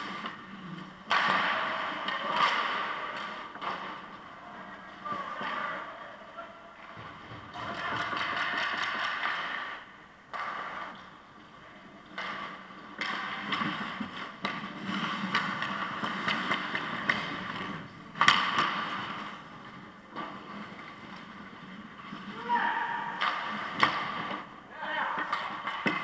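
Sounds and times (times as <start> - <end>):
hockey stick clicks: 0.0 - 4.2, 6.8 - 11.2, 12.0 - 22.2, 23.1 - 24.5, 25.2 - 26.0
skate blades scraping on ice: 0.0 - 6.1, 6.8 - 26.0.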